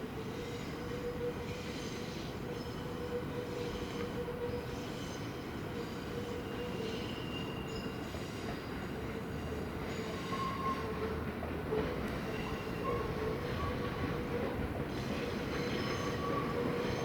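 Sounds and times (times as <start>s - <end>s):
electric train rumbling past: 0.0s - 17.0s
train wheel squeals: 0.0s - 17.0s.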